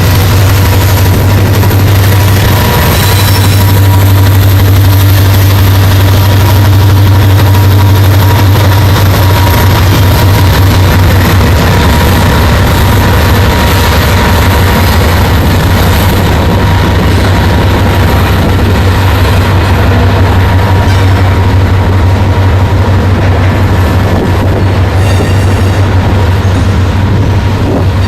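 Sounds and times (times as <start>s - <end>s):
diesel locomotive drone: 0.0s - 28.0s.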